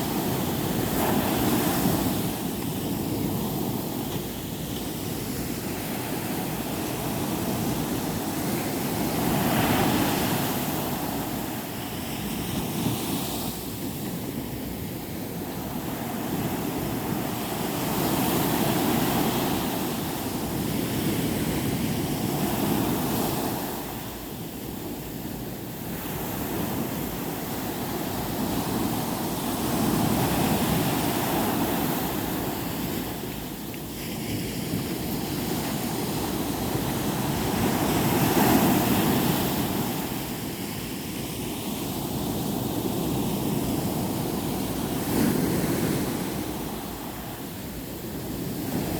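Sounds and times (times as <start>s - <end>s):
sea waves breaking on beach: 0.0s - 48.9s.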